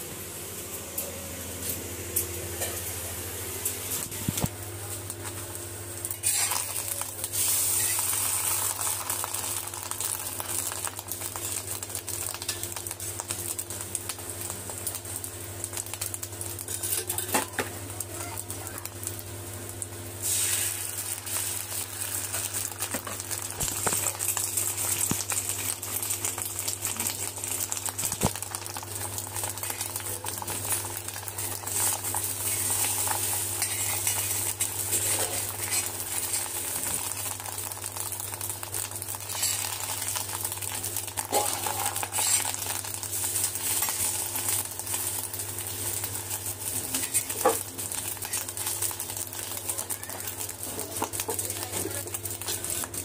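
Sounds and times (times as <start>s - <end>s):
egg sizzling in oil: 6.0s - 53.0s.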